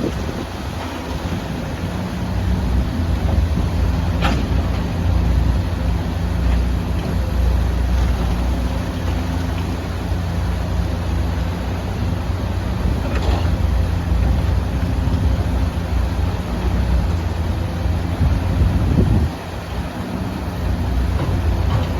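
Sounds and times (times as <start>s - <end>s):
excavator diesel engine: 0.0s - 21.9s.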